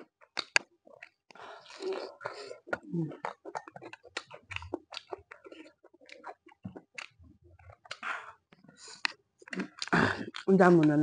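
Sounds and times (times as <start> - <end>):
lip-smacking clicks: 0.0 - 11.0
wet chewing: 0.0 - 11.0.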